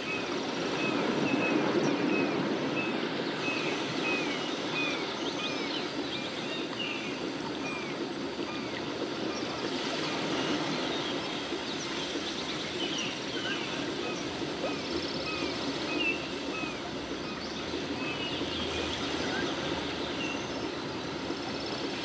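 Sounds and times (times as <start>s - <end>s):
flowing stream water: 0.0s - 22.0s.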